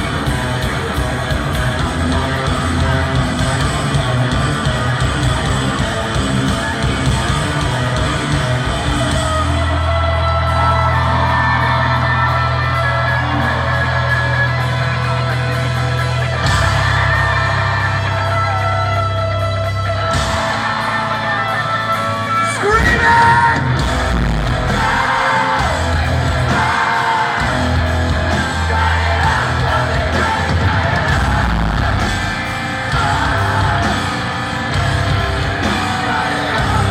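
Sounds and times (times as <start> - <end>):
bass guitar: 0.0 - 36.9
drums: 0.0 - 36.9
electric guitars: 0.0 - 36.9.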